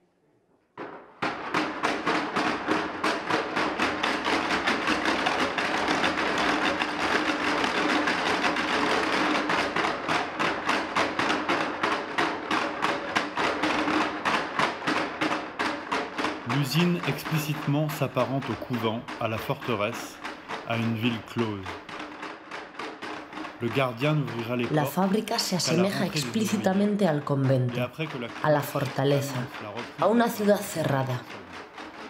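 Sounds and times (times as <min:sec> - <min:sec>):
rapid percussive clatter: 0:00.8 - 0:32.0.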